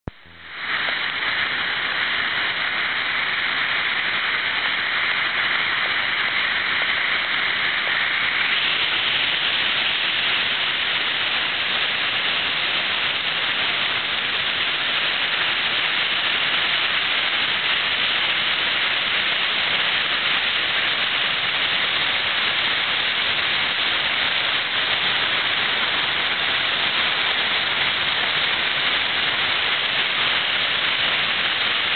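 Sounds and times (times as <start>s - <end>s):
waterfall rushing: 0.4s - 31.9s.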